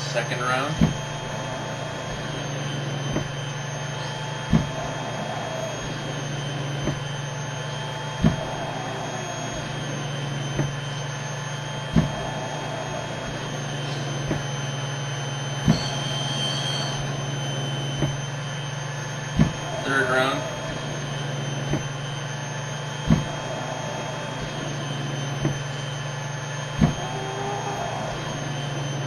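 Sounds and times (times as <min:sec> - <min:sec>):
blower hum: 0:00.0 - 0:29.0.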